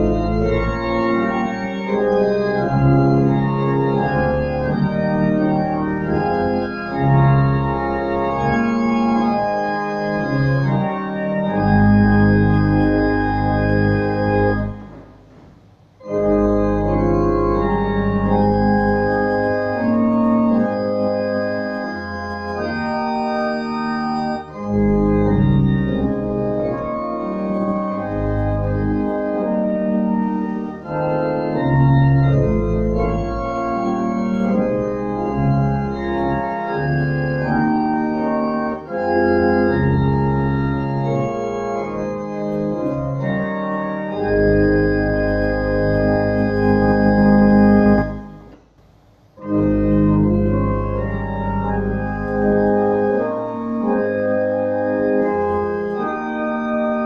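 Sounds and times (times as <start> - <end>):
church organ playing slow chords: 0.0 - 48.7, 49.3 - 57.0.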